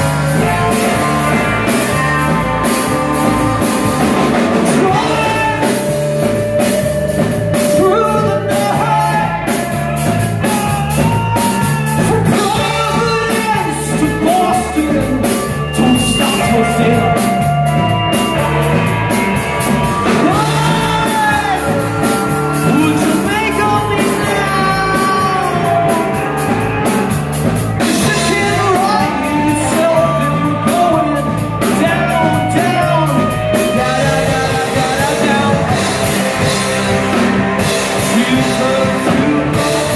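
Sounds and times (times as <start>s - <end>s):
man singing: 0.0s - 18.8s, 19.7s - 39.9s
drum kit beat: 0.0s - 39.9s
electric bass: 0.0s - 39.9s
electric guitars: 0.0s - 39.9s.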